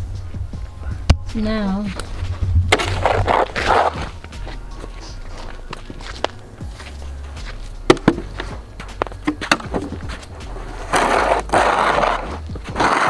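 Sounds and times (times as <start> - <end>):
low rumble: 0.0 - 12.7
footsteps: 0.0 - 13.0.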